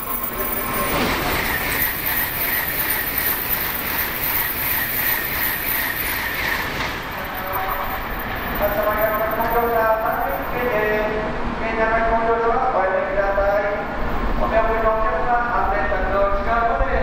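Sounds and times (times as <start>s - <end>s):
high-speed train rushing past: 0.0s - 17.0s.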